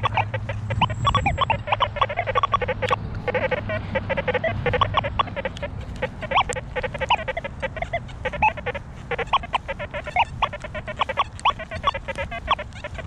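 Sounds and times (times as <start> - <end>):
metal detector rapid short tones: 0.0 - 13.0.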